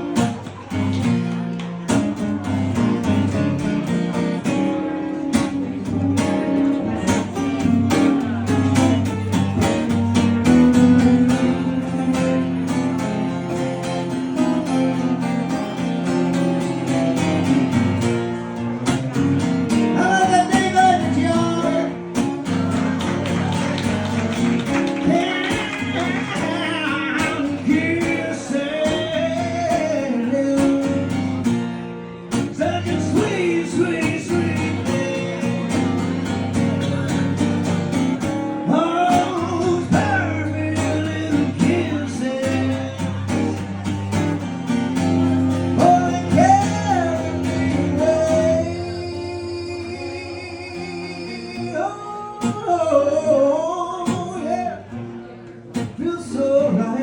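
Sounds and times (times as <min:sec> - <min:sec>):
acoustic guitar: 0:00.0 - 0:57.0
man singing: 0:06.2 - 0:15.6, 0:18.8 - 0:23.6, 0:24.6 - 0:44.3, 0:44.9 - 0:57.0.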